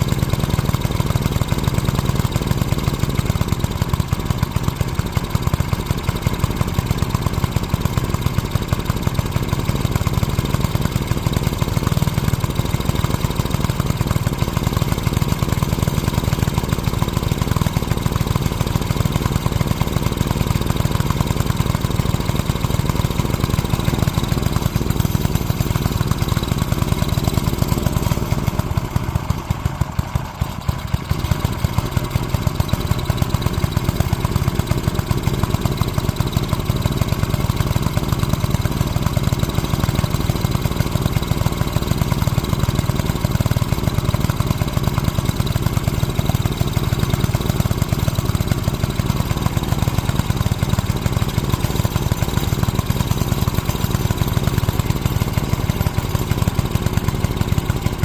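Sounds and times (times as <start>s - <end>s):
small gasoline engine idling: 0.0s - 58.0s.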